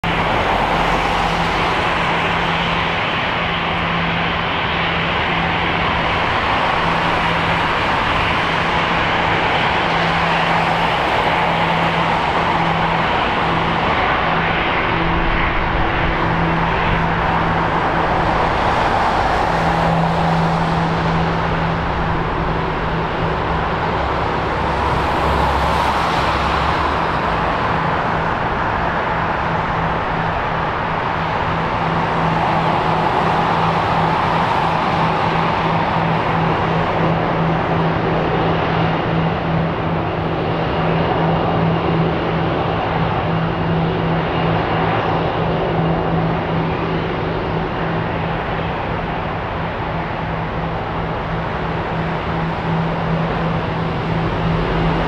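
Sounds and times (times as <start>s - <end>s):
jet engines at taxi power: 0.0s - 55.0s.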